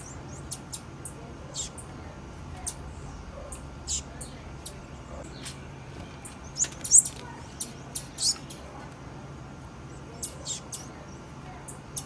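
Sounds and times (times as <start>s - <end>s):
bird chip calls: 0.0s - 2.0s, 2.6s - 5.6s, 6.2s - 8.8s, 9.9s - 12.0s.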